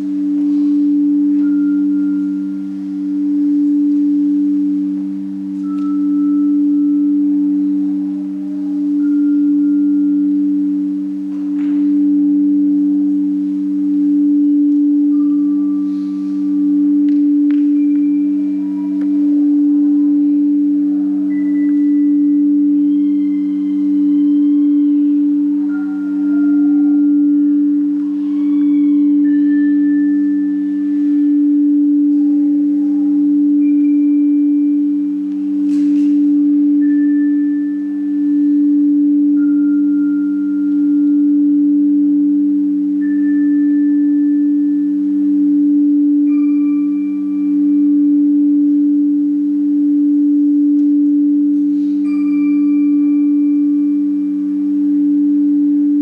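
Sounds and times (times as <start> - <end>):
high pure tones: 0.0 - 56.0
low ringing drone: 0.0 - 56.0.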